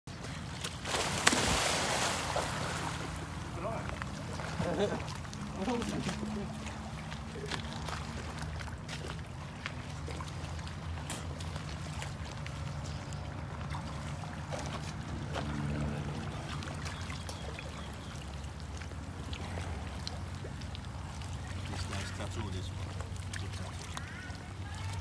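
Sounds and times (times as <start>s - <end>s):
water splashing around people: 0.1s - 25.0s
fish thrashing in water: 0.4s - 25.0s.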